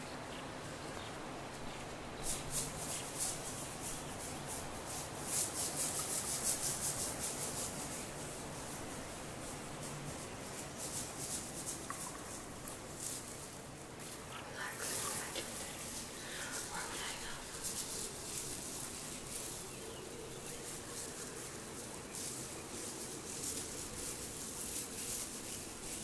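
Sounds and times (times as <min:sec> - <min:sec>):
background hiss: 0:00.0 - 0:26.0
crystals rattling in a bag: 0:02.2 - 0:26.0.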